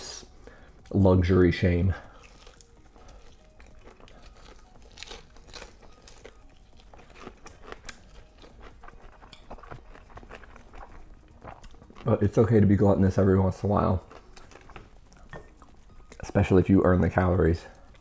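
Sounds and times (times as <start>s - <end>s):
crunchy chewing of fried chicken: 0.1s - 18.0s.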